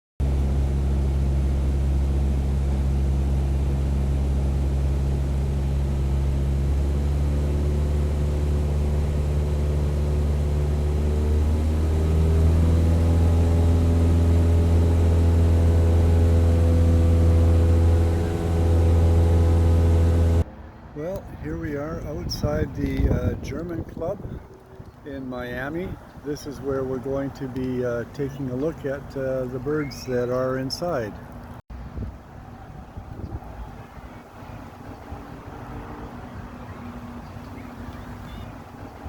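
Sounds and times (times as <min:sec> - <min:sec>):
engine droning: 0:00.2 - 0:39.0.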